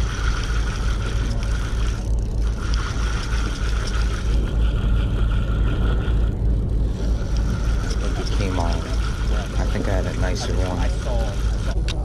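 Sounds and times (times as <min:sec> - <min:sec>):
boat engine rumbling: 0:00.0 - 0:12.0
fishing reel whirring: 0:00.0 - 0:12.0.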